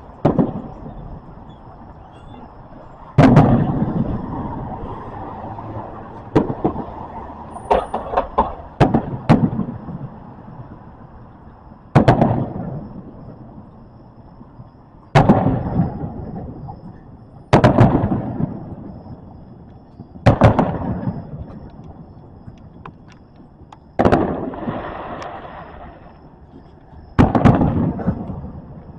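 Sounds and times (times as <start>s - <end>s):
fireworks pops and bangs: 0.0s - 4.5s, 6.2s - 7.0s, 7.6s - 10.3s, 11.9s - 13.7s, 15.1s - 28.9s
fireworks booms: 0.0s - 5.0s, 6.1s - 11.0s, 11.8s - 13.8s, 14.4s - 28.9s
echoing rumble: 0.0s - 28.9s.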